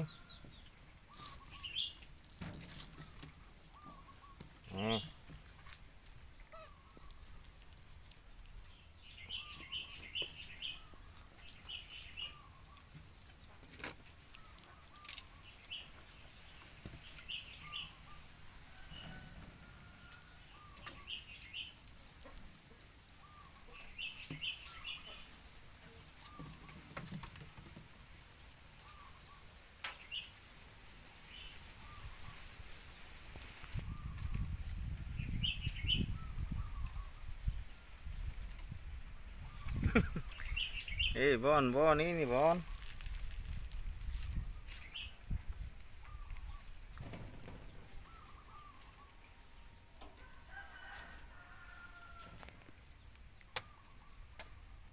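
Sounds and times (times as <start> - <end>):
birds chirping: 0.0 - 19.3, 19.9 - 27.6, 28.6 - 54.9.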